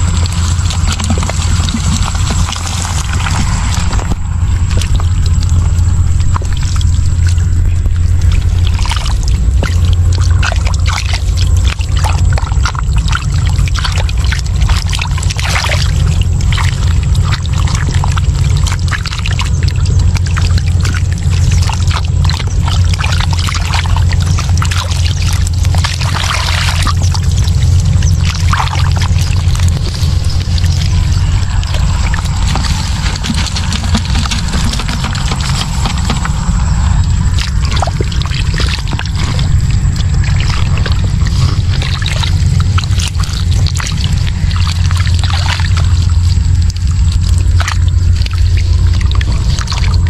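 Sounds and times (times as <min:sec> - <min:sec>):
shallow water splashing: 0:00.0 - 0:50.0
steady low rumble: 0:00.0 - 0:50.0.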